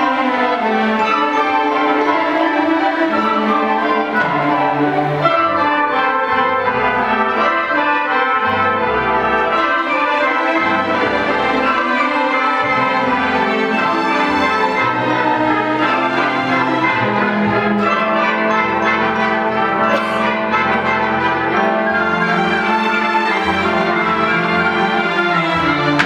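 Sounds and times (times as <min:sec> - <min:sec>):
symphony orchestra playing: 0:00.0 - 0:26.0.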